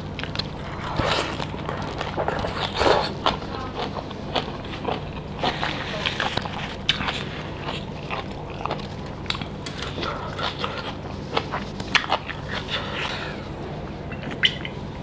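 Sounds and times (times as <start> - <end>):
chewing and wet mouth sounds: 0.0 - 14.9
steady low hum: 0.0 - 15.0.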